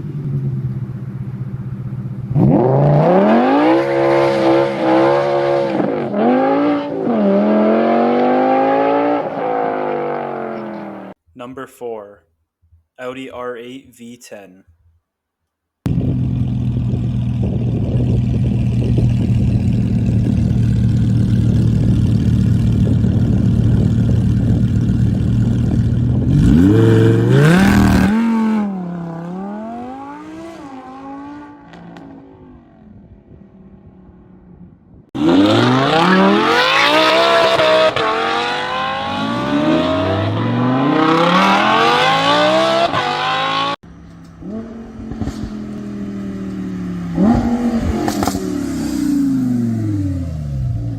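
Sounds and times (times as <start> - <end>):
car engine revving: 2.3 - 11.1, 15.9 - 32.4, 35.2 - 50.9.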